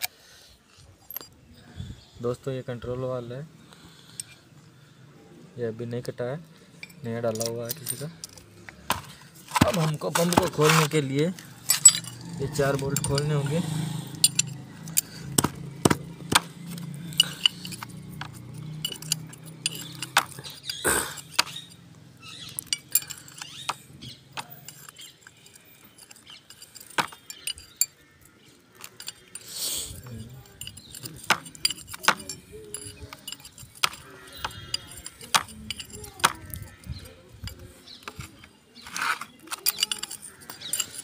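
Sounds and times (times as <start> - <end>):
spanner clinking on bolts: 6.8 - 41.0.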